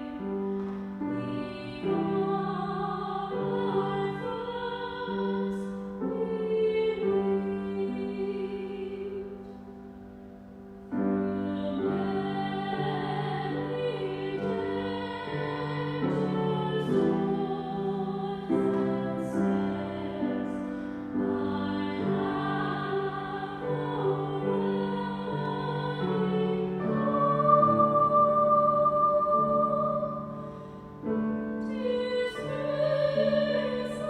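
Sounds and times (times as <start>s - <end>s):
person singing a slow hymn: 0.0s - 34.0s
piano accompaniment: 0.0s - 34.0s.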